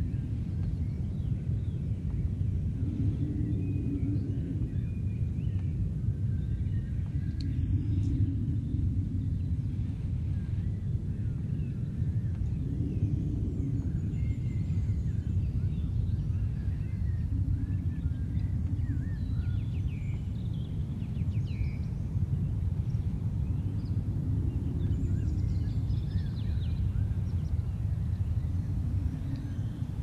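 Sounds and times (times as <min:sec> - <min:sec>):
steady low rumble: 0:00.0 - 0:30.0
small birds chirping: 0:00.1 - 0:30.0.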